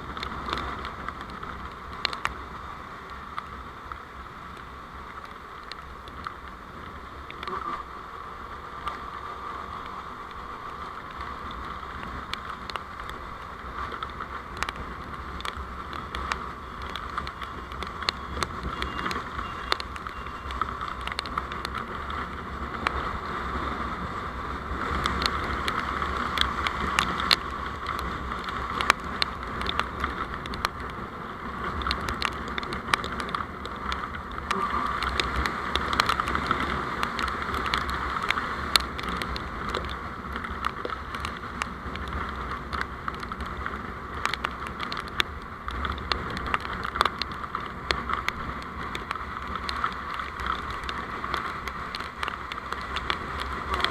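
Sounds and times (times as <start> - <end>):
sharp clicks and ticks: 0.0 - 2.4, 3.0 - 7.7, 9.8 - 23.6, 24.4 - 53.9
vehicle road noise: 0.0 - 53.9.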